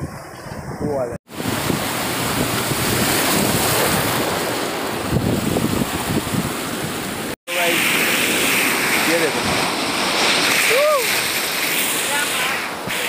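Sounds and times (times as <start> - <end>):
wind buffeting microphone: 0.0 - 12.9
seawater splashing over rocks: 1.3 - 13.0.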